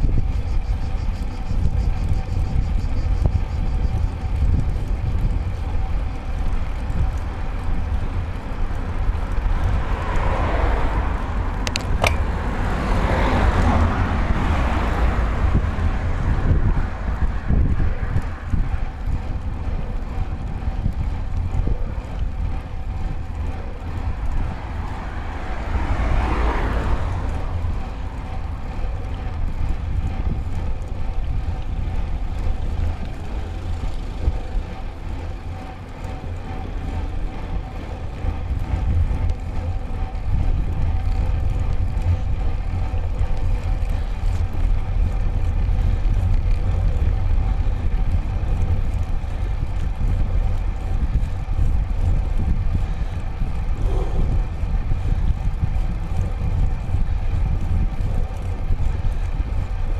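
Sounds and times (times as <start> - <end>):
bicycle tyre noise on road: 0.0 - 59.9
wind rumble on camera: 0.0 - 59.9
vehicle passing: 6.4 - 59.9.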